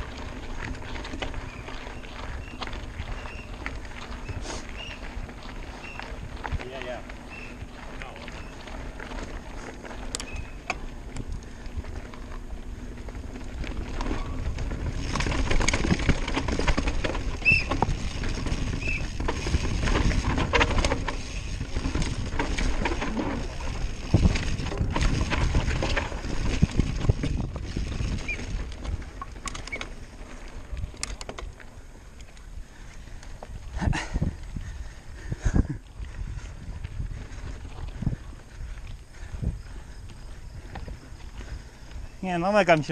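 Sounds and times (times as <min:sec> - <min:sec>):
bike rattling and knocking: 0:00.0 - 0:42.9
bike tyres rolling: 0:00.0 - 0:42.9.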